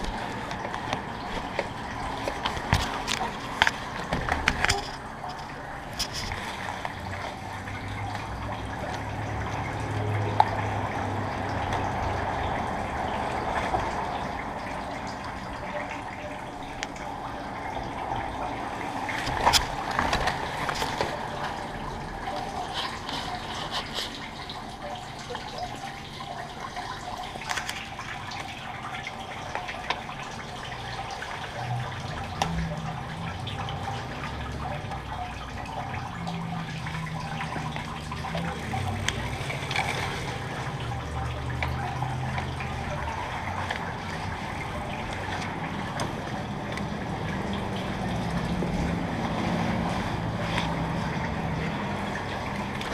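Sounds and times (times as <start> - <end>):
water trickling and dripping: 0.0 - 52.9.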